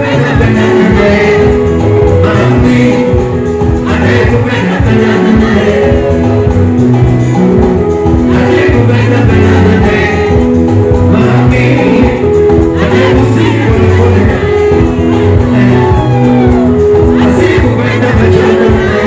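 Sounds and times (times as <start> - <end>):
lead singer singing: 0.0 - 19.0
live band music: 0.0 - 19.0.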